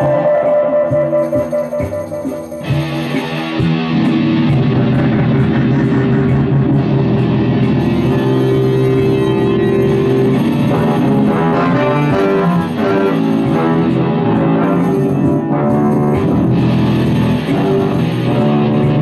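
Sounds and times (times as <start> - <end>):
instrumental music: 0.0 - 19.0.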